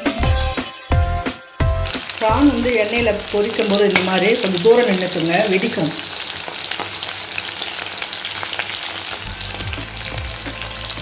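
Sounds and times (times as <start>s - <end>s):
prawns deep-frying in hot oil: 1.6s - 11.0s.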